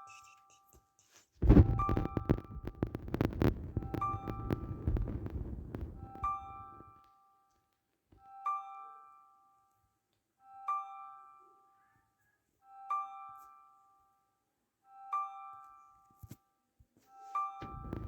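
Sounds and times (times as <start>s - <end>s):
soft keyboard music: 0.0s - 18.0s.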